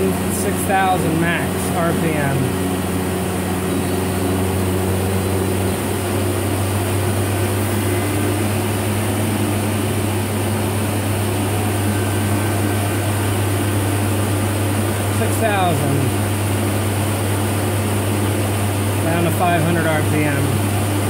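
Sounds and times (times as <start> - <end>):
machine spindle running steadily: 0.0 - 21.0.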